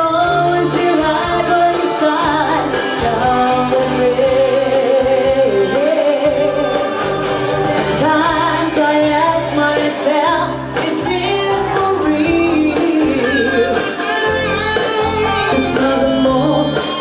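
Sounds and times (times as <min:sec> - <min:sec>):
woman singing into microphone: 0:00.0 - 0:14.3, 0:15.3 - 0:17.0
instrumental accompaniment: 0:00.0 - 0:17.0.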